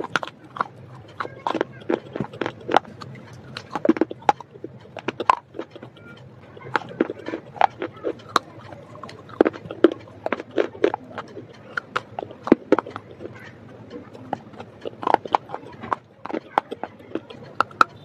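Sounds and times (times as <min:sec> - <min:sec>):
crunching and chewing clay: 0:00.0 - 0:18.0.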